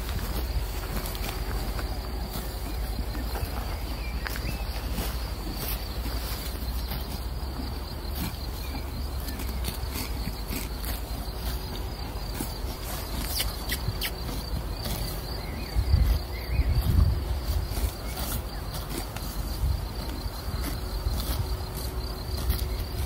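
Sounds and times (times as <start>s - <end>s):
horses chewing grass: 0.0s - 23.0s
insects chirping: 0.0s - 23.0s.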